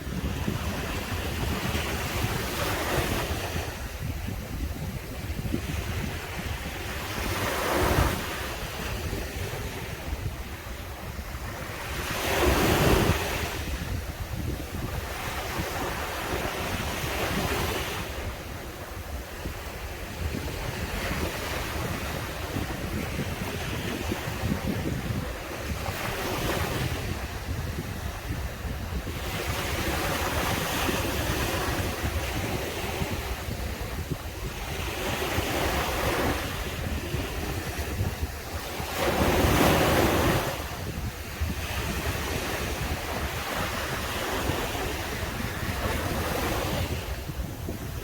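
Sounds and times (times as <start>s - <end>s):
waves breaking on beach: 0.0s - 48.0s
wind rumble on microphone: 0.0s - 48.0s.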